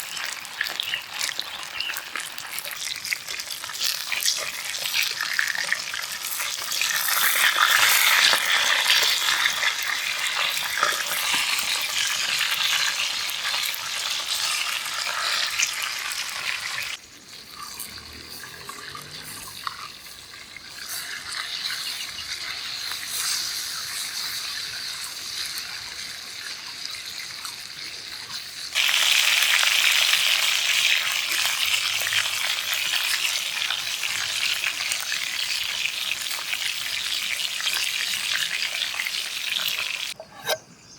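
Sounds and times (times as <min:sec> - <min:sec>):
food sizzling in a pan: 0:00.0 - 0:40.2.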